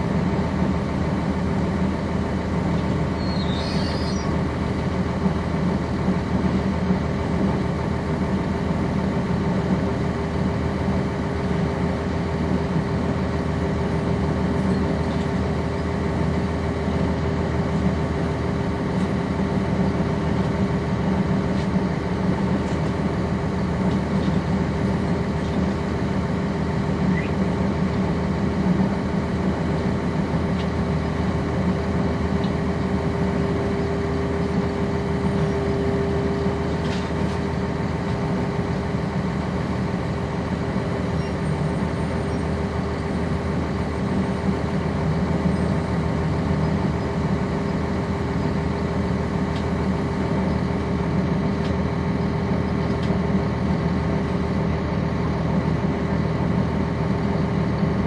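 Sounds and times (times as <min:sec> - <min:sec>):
bus diesel engine running: 0:00.0 - 0:58.0
steady whine: 0:00.0 - 0:58.0.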